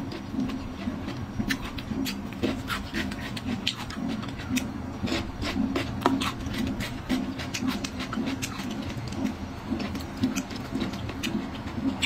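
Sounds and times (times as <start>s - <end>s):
chewing food with crunches: 0.0s - 12.0s.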